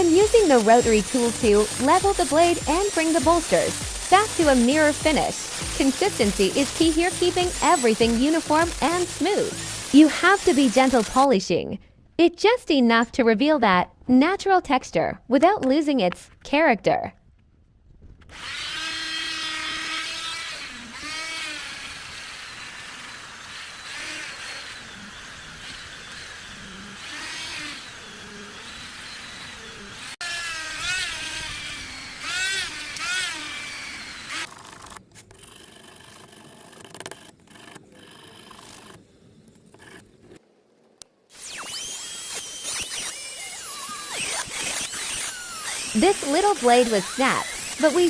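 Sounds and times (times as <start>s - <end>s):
rotary tool whining on steel: 0.0s - 11.3s, 18.2s - 40.4s, 41.3s - 48.0s.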